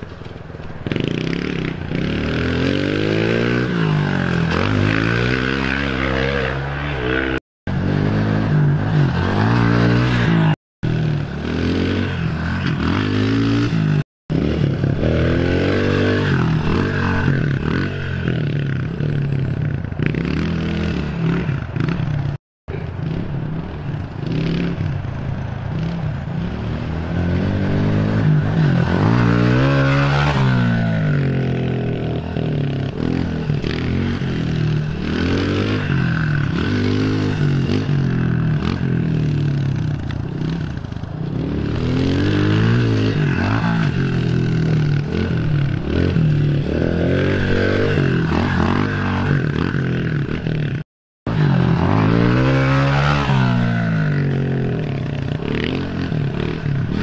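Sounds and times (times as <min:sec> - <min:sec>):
motorbike engine revving: 0:00.8 - 0:57.0.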